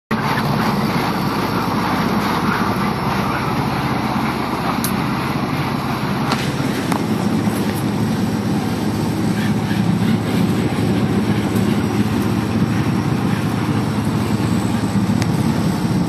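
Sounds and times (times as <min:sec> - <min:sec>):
boat engines droning: 0:00.1 - 0:16.0
broad rushing noise: 0:00.1 - 0:16.0.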